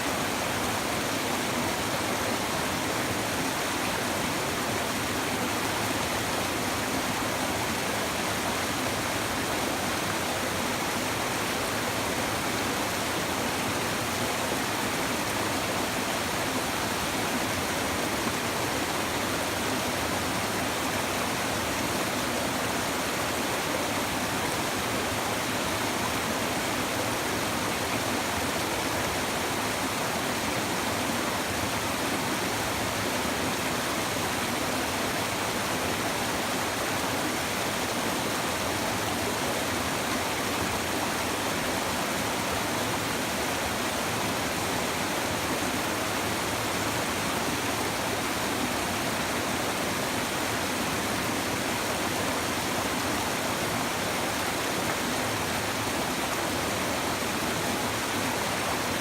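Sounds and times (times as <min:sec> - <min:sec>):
shallow river flowing over stones: 0:00.0 - 0:59.0.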